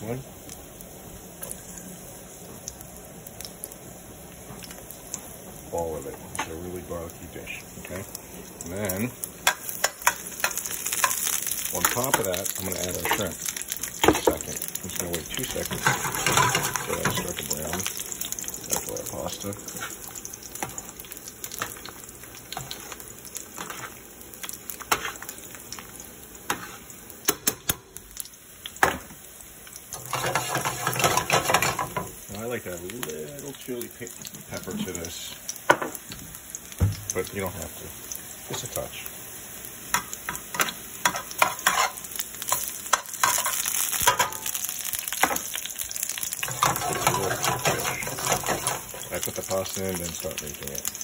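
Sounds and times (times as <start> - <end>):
garlic sizzling in oil: 0.0 - 51.0
water boiling: 0.0 - 51.0.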